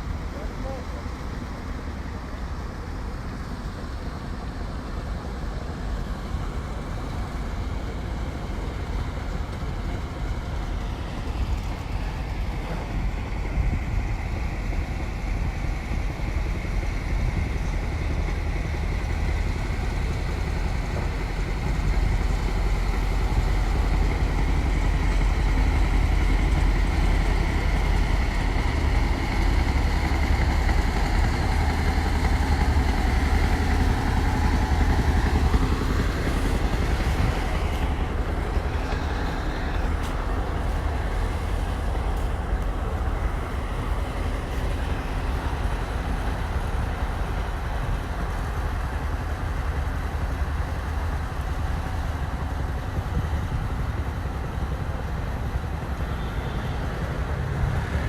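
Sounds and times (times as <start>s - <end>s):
motor engine rumbling: 5.8s - 56.1s.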